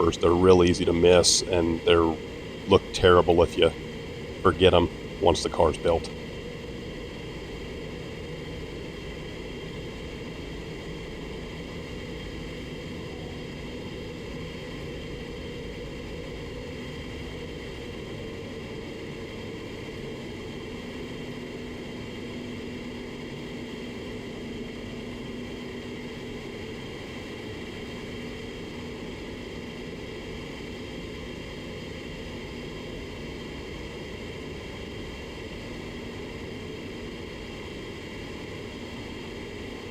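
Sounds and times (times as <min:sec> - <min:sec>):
ventilation fans whirring: 0:00.0 - 0:39.9.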